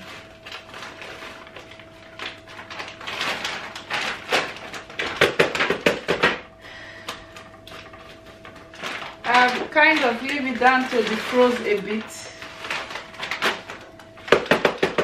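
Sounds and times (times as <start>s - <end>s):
frozen vegetables rattling into plastic jar: 0.0s - 6.4s, 8.7s - 15.0s.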